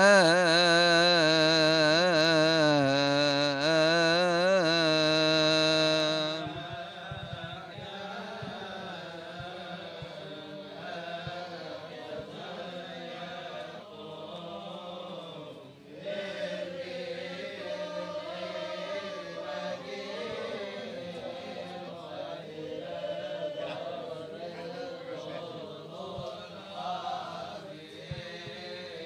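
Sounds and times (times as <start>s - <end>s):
men chanting liturgical chant: 0.0s - 29.0s.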